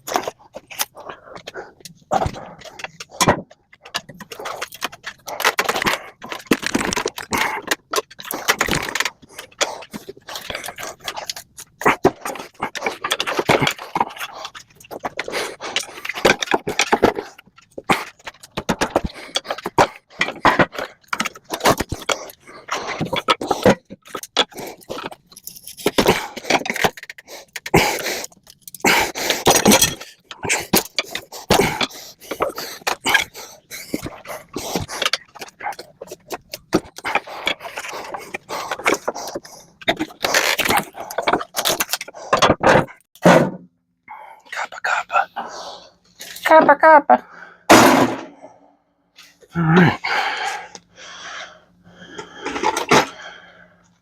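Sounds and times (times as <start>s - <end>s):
hand tools scraping and clanking metal: 0.0s - 43.5s, 52.0s - 53.4s.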